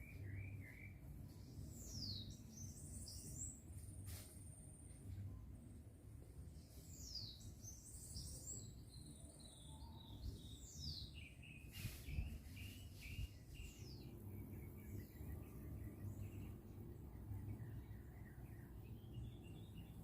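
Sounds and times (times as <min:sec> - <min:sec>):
faint bird chirps and whistles: 0:00.0 - 0:04.5, 0:06.5 - 0:20.0.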